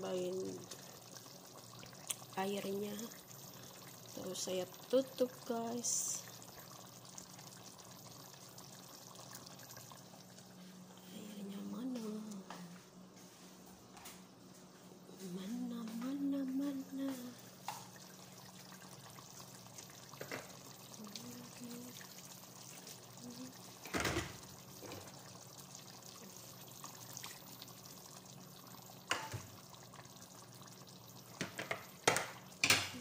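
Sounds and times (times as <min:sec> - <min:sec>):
curry bubbling in a pot: 0:00.0 - 0:10.8, 0:16.3 - 0:33.0.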